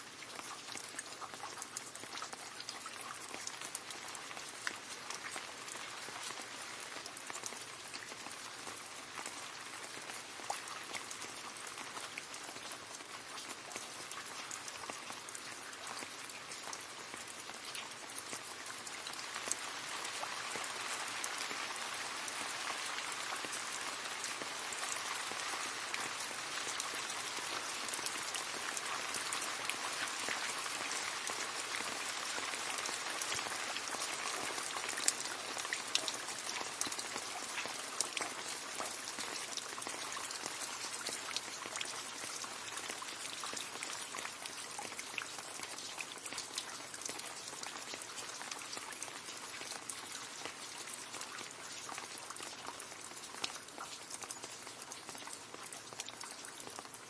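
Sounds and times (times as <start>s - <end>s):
rain falling into a puddle: 0.0s - 57.0s.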